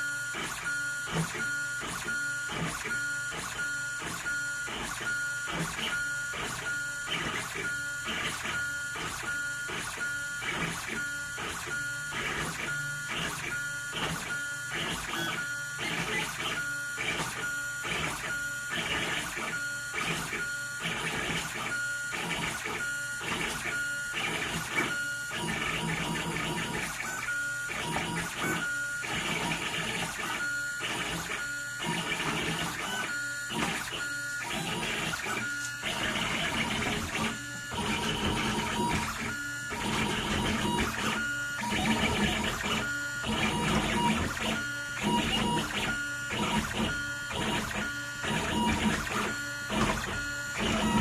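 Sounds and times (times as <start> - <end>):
stepper motors moving: 0.2 - 51.0.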